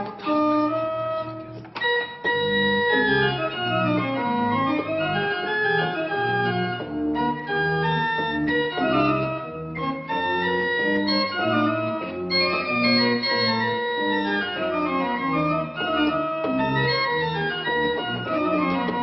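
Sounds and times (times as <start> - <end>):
organ pedal bass notes: 0.0 - 19.0
pipe organ playing: 0.0 - 19.0.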